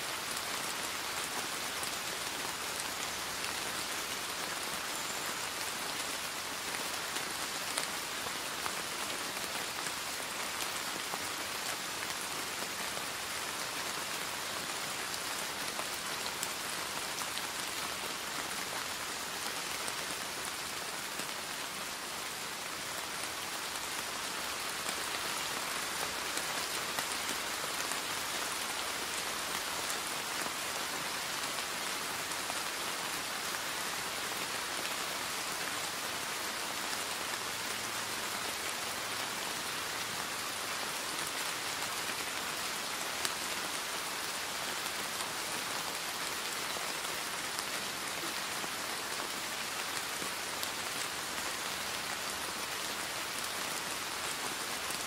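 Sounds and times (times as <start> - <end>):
rain on leaves and pavement: 0.0 - 55.0.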